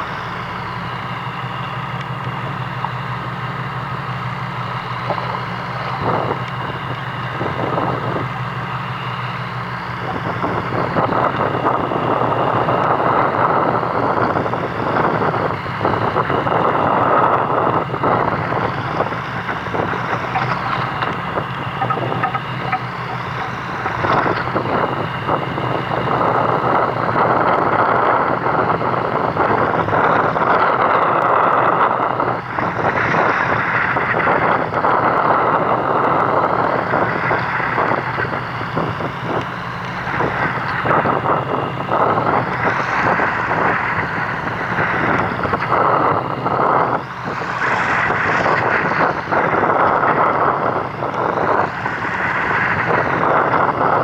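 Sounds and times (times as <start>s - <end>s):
boat engine running: 0.0s - 54.0s
water noise: 0.0s - 54.0s
wind buffeting microphone: 0.0s - 54.0s.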